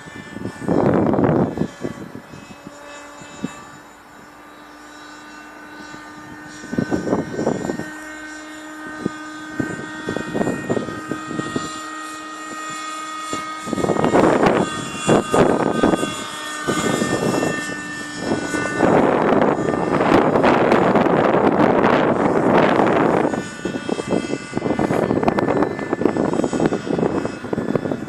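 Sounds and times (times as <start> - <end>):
model helicopter engine whine: 0.0 - 28.0
wind buffeting microphone: 0.0 - 28.0.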